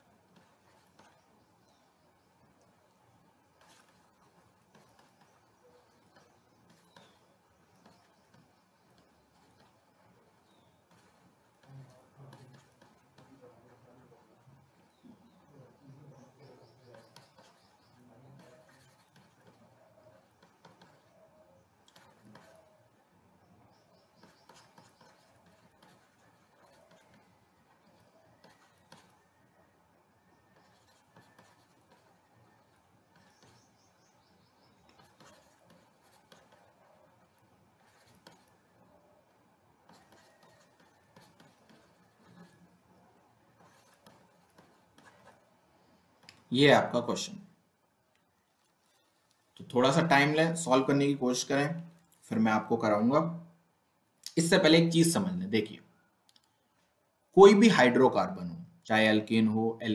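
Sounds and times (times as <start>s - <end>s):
stylus scratching on tablet: 0.0s - 47.4s, 48.2s - 53.5s.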